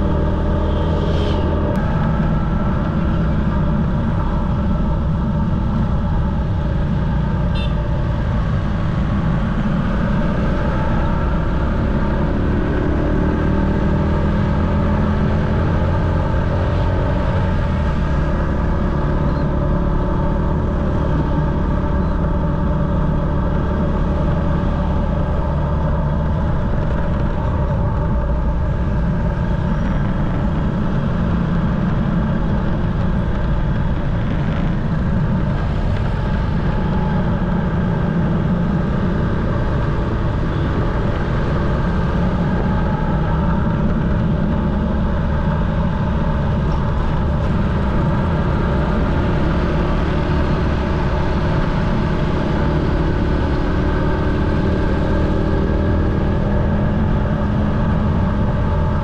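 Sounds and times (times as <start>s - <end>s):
motorcycle engine running: 0.0s - 59.0s
steady low rumble: 0.0s - 59.0s.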